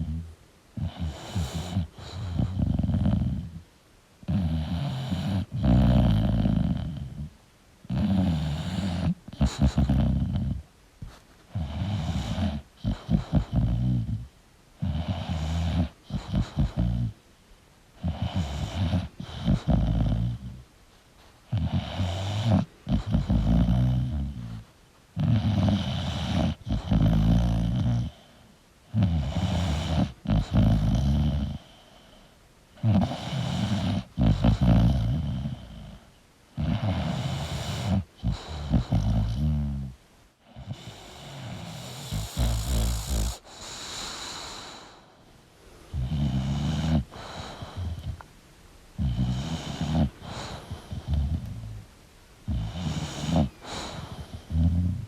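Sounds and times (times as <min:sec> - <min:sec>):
dog snoring: 0:00.0 - 0:03.6, 0:04.2 - 0:17.2, 0:18.0 - 0:20.6, 0:21.5 - 0:45.2, 0:45.9 - 0:48.3, 0:49.0 - 0:51.8, 0:52.4 - 0:55.0.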